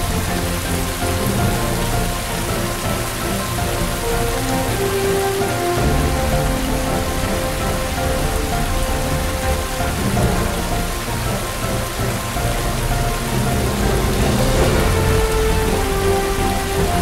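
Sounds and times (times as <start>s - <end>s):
water falling into pool: 0.0s - 17.0s.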